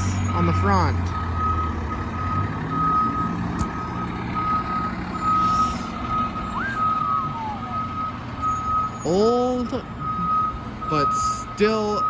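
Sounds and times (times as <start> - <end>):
truck engine hum: 0.0 - 12.0.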